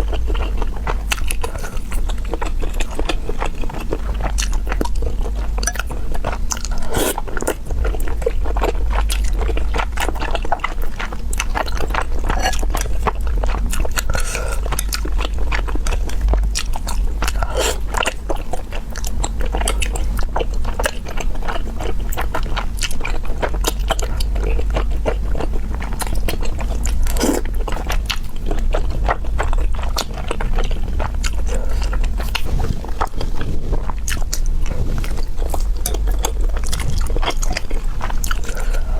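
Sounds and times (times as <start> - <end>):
chewing chicken with crunches: 0.0 - 38.9.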